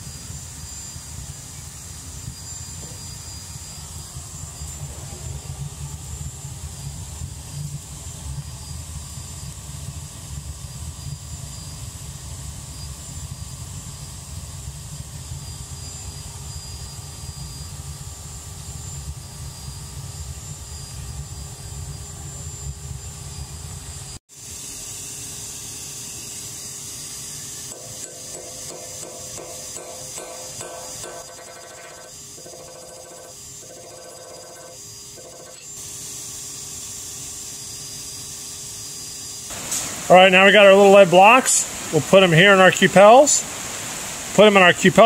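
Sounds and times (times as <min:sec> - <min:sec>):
furnace roaring with hiss: 0:00.0 - 0:45.0.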